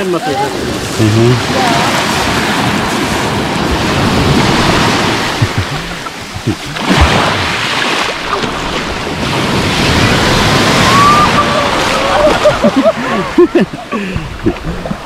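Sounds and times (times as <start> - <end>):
waves washing on pebble beach: 0.0 - 13.5.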